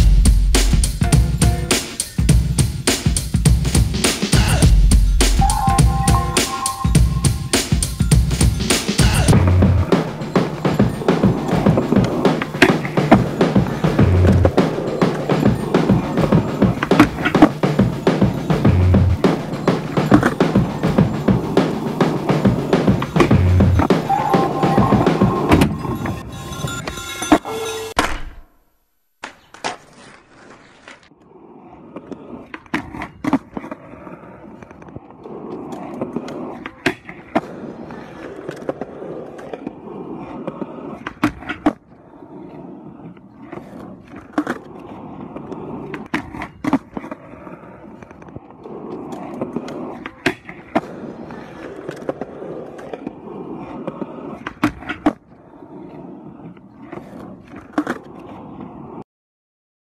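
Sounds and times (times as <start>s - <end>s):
skateboard rolling on pavement: 0.0s - 27.4s, 29.4s - 59.0s
skateboard clacks: 5.2s - 27.4s, 29.2s - 59.0s.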